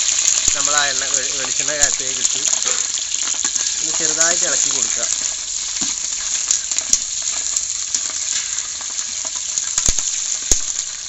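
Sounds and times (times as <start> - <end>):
chillies sizzling in hot oil: 0.0 - 11.0.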